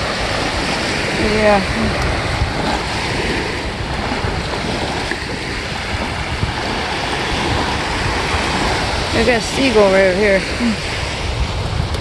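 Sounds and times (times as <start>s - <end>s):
waves washing up a beach: 0.0s - 12.0s
wind buffeting microphone: 0.0s - 12.0s.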